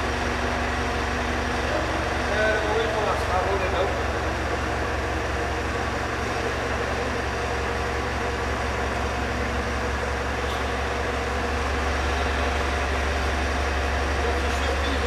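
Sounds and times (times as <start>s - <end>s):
forklift diesel engine running: 0.0s - 15.0s.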